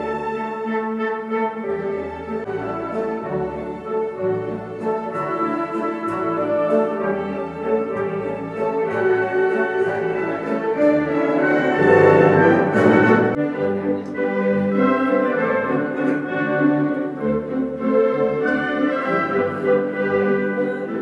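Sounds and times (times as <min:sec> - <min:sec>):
orchestral music over loudspeakers: 0:00.0 - 0:21.0.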